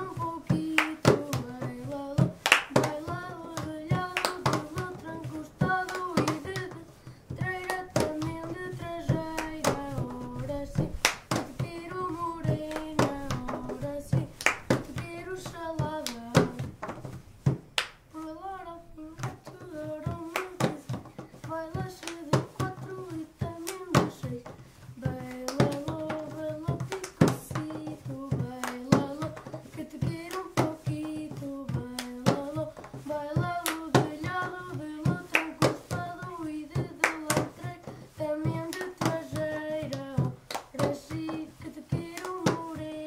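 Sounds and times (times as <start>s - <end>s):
hand claps: 0.0s - 18.1s, 19.2s - 43.0s
knuckle knocks and slaps on container: 0.0s - 18.1s, 19.2s - 43.0s.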